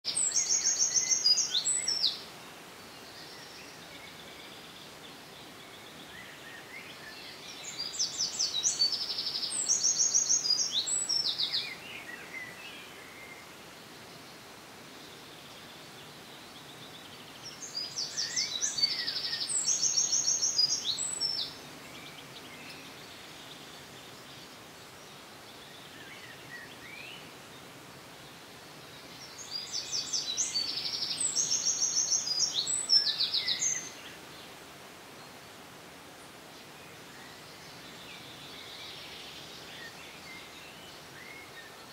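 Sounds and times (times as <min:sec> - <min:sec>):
outdoor background noise: 0:00.0 - 0:41.9.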